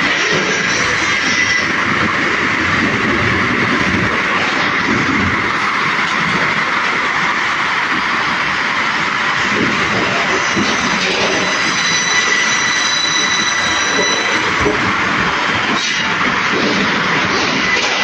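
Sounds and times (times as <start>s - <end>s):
log sawing machinery: 0.0s - 7.2s, 8.2s - 18.0s.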